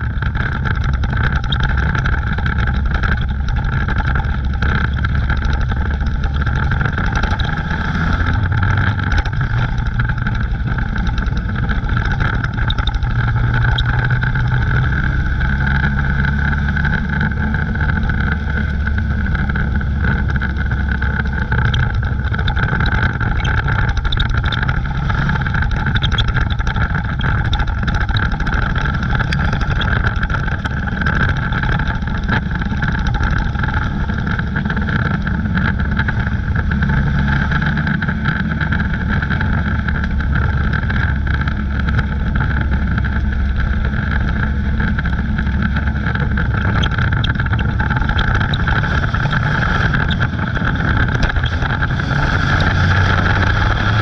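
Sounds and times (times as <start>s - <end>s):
race car engine running hard: 0.0s - 54.0s
steady high whine: 0.0s - 54.0s.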